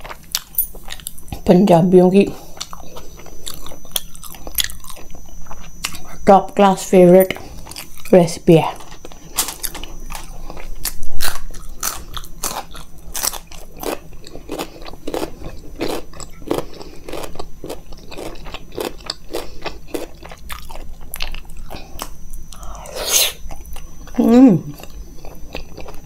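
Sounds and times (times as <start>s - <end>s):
close chewing with mouth clicks: 0.0s - 1.4s, 2.5s - 6.2s, 8.8s - 26.0s.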